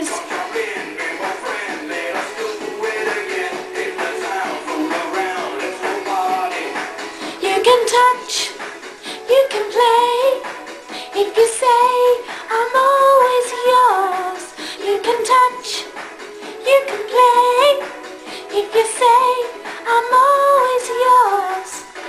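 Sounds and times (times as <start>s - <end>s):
backing track: 0.0s - 22.0s
woman singing pop melody: 0.0s - 22.0s.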